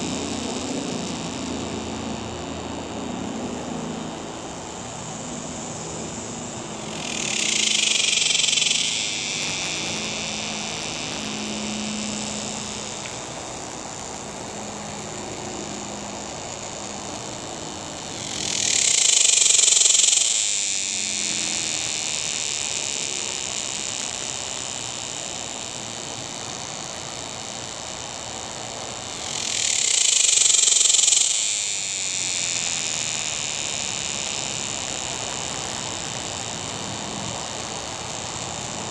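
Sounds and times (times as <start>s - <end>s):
cicada buzzing: 0.0s - 38.9s
steady high drone: 0.0s - 38.9s.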